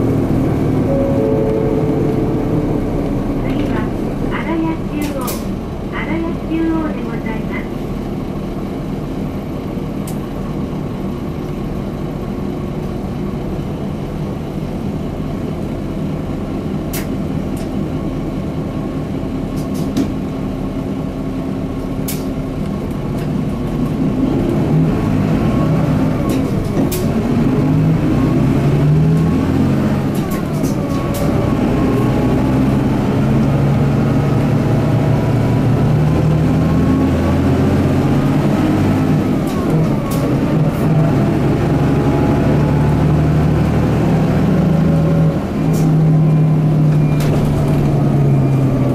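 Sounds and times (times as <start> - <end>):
bus diesel engine: 0.0 - 48.9.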